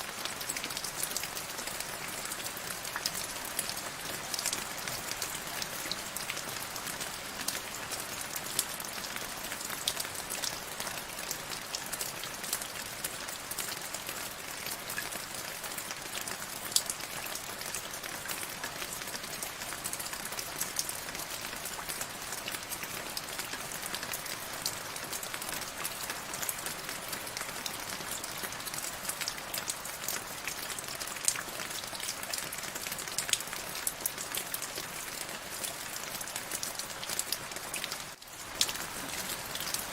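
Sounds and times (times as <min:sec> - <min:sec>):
rain drops ticking on hard surface: 0:00.1 - 0:39.9.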